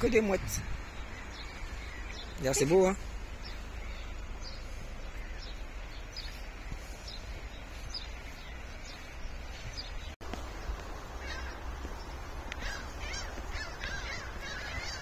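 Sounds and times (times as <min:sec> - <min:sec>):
gulls calling: 0:00.0 - 0:15.0
wind and water hiss: 0:00.0 - 0:15.0
wind rumbling on microphone: 0:00.0 - 0:15.0.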